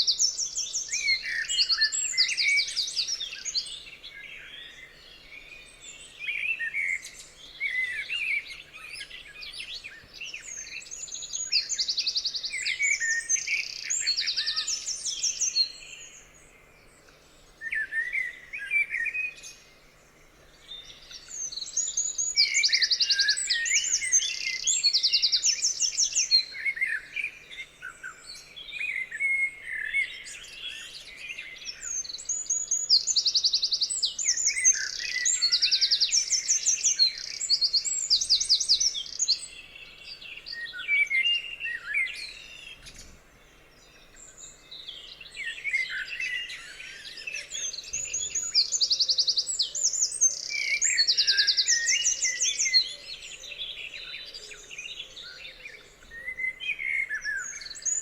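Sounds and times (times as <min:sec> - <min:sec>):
songbirds singing and calling: 0:00.0 - 0:58.0.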